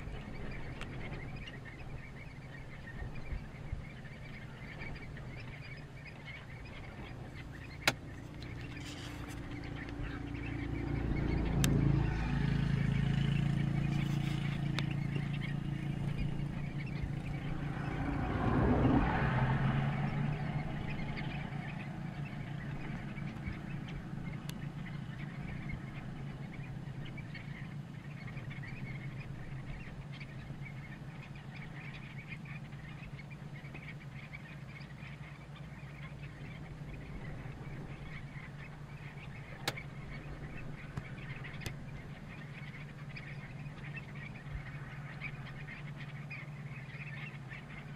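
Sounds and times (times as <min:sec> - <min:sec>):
vehicle passing: 0:03.6 - 0:47.9.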